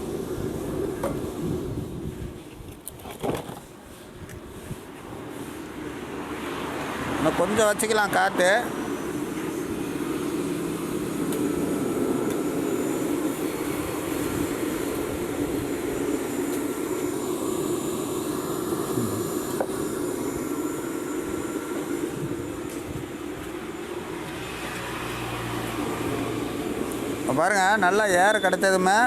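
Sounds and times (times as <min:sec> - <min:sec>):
stove blower fan and fire roaring: 0:00.0 - 0:29.0.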